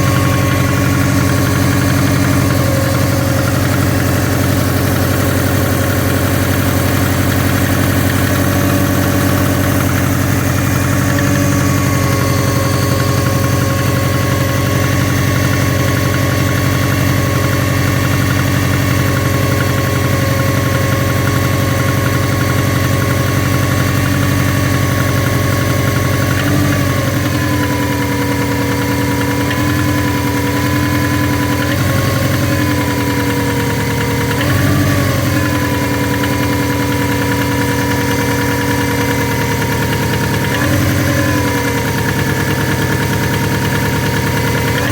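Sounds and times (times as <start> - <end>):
engine idling with a knock: 0.0 - 44.9.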